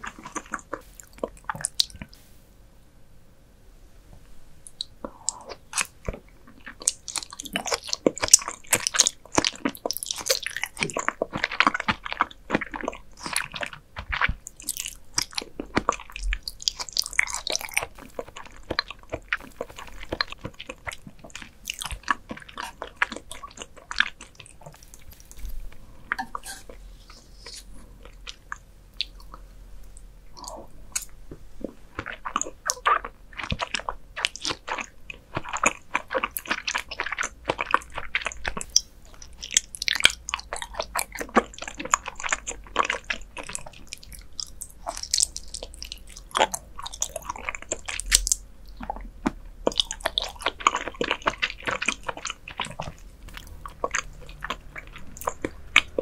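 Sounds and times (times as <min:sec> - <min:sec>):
person chewing wet smacking: 0:00.0 - 0:02.2, 0:04.6 - 0:56.0.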